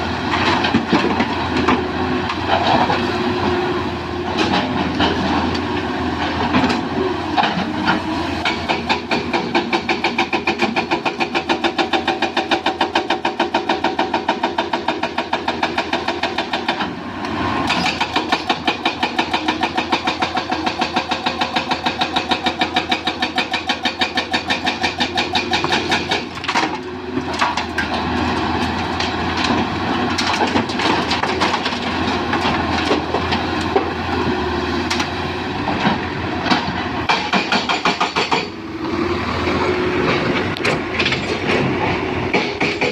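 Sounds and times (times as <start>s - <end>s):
excavator diesel clattering: 0.0s - 42.9s.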